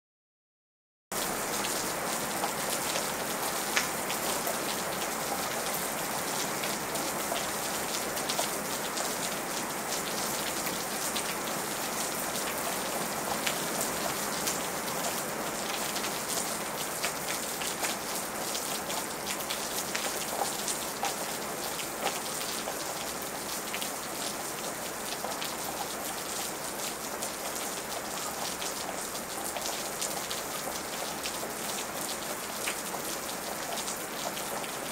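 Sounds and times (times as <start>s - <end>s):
steady rain: 1.2s - 34.9s.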